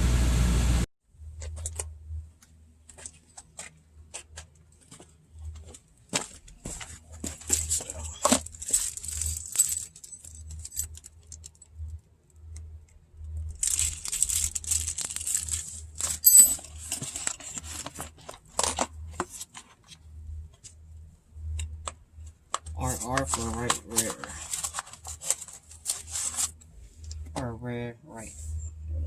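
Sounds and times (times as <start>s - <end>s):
small parts rustling and clicking: 1.4s - 20.8s, 21.5s - 27.4s.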